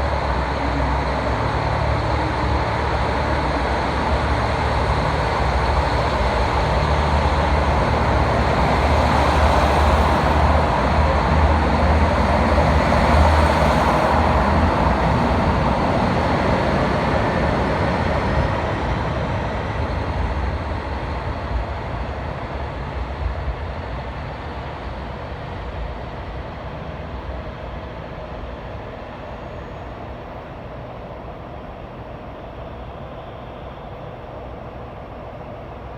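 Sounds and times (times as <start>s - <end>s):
diesel railcar engine rumbling: 0.0s - 35.9s.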